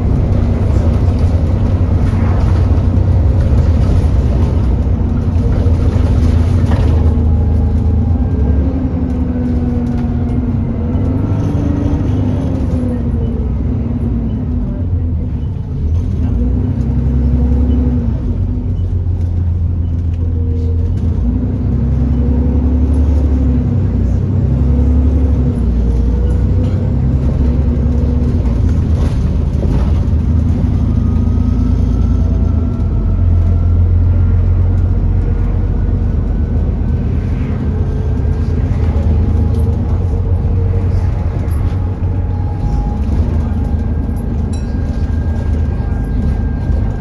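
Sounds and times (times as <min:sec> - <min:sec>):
bus engine rumbling: 0:00.0 - 0:47.0.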